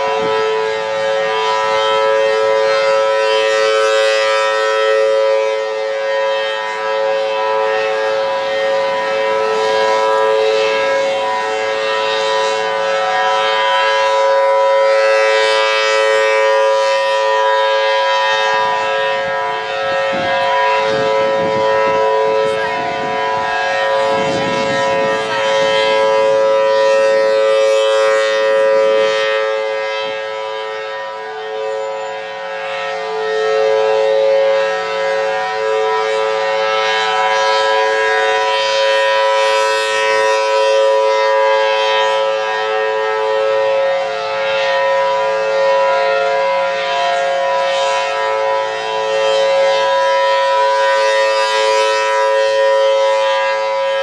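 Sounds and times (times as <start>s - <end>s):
civil defense siren two-pitch tone: 0.0s - 54.0s.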